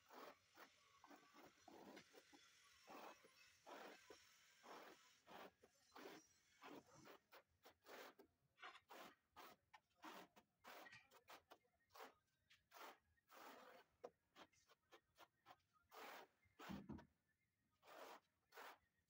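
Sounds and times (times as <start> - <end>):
tile scraping in adhesive: 0.0 - 17.0, 17.8 - 18.9.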